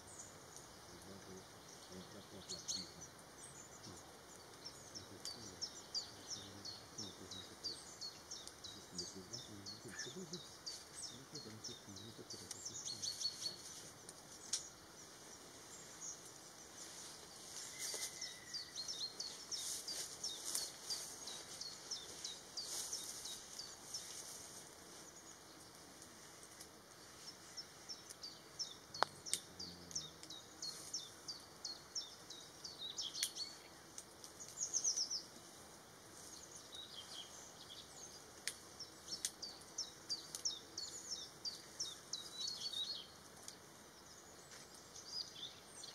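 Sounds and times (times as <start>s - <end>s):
low steady background noise: 0.0s - 45.9s
small birds chirping: 0.0s - 45.9s.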